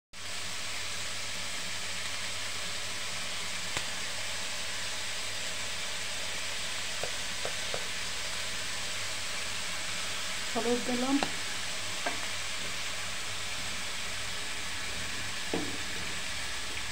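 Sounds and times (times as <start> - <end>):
hot oil sizzling: 0.2 - 16.9.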